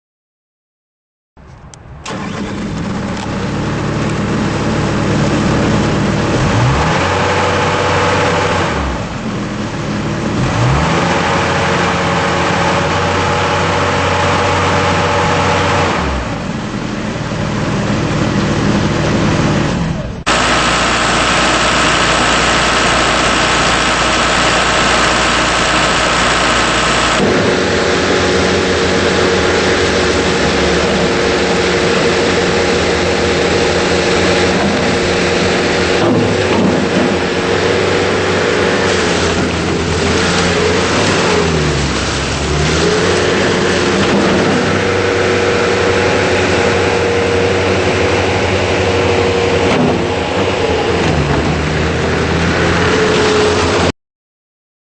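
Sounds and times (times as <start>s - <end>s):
diesel engine revving: 1.6s - 53.9s.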